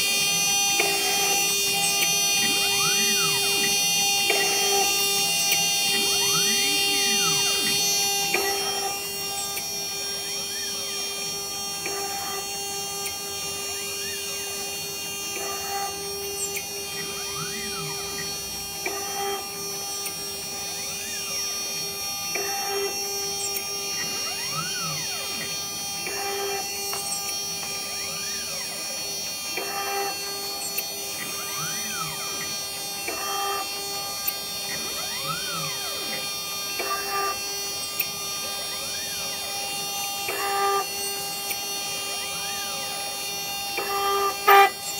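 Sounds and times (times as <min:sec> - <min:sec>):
axis motors whining: 0:00.0 - 0:44.9
spindle motor whine: 0:00.0 - 0:44.9.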